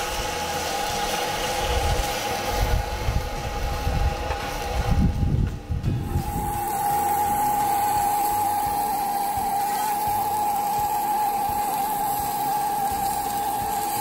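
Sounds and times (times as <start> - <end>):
bacon and sausages frying: 0.0 - 14.0
gas blowlamps hissing: 0.0 - 14.0.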